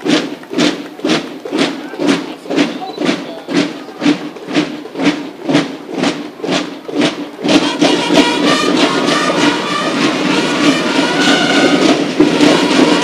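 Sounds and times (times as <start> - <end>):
music with steady beat: 0.0 - 13.0.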